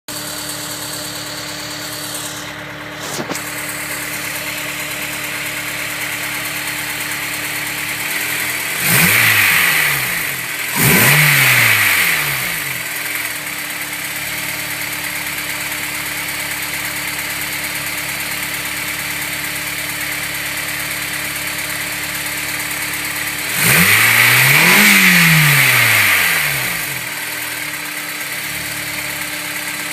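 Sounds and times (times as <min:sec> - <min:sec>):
car engine idling and revving: 0:00.1 - 0:29.9.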